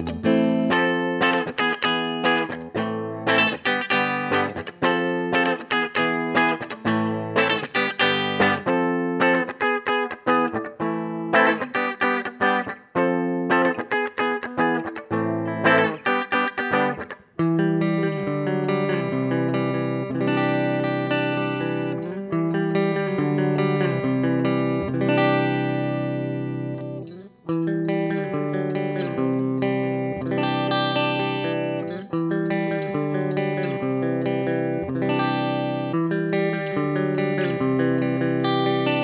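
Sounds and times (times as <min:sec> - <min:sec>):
overdriven electric guitar riff: 0:00.0 - 0:39.0.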